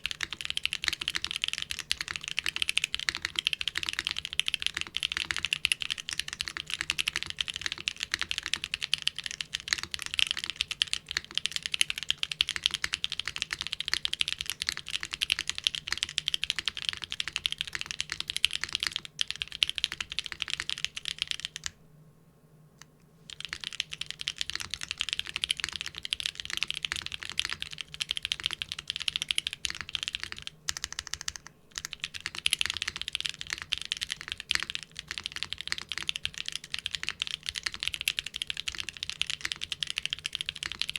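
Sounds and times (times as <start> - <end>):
typing on mechanical keyboard: 0.0 - 21.7, 23.3 - 40.9.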